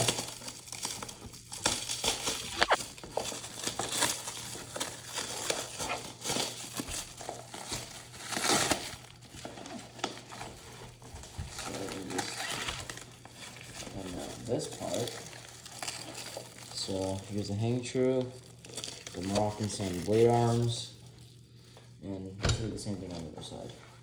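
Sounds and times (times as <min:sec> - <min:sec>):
plastic wrapping crinkling: 0:00.0 - 0:21.9.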